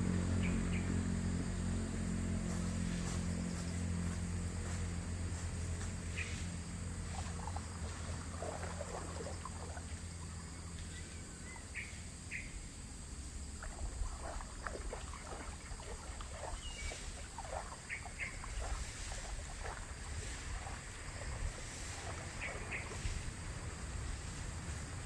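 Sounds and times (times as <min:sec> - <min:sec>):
high insect drone: 0:00.0 - 0:25.0
low engine hum: 0:00.0 - 0:25.0.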